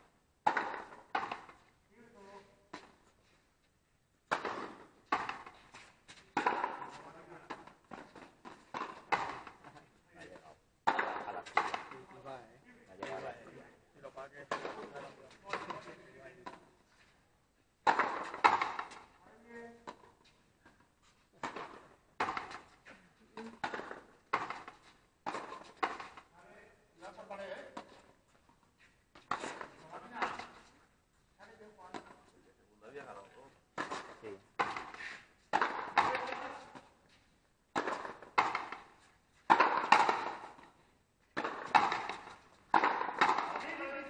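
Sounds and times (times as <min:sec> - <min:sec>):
ball striking rackets and wall: 0:00.4 - 0:03.0, 0:04.2 - 0:16.7, 0:17.8 - 0:30.8, 0:31.5 - 0:32.3, 0:33.0 - 0:44.0.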